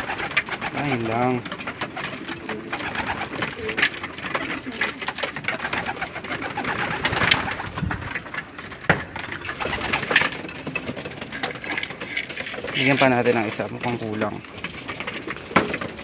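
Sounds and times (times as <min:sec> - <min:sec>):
pigeons cooing: 0:00.0 - 0:16.0
sharp clatters of fluttering birds: 0:00.0 - 0:16.0
wings flapping: 0:00.0 - 0:16.0.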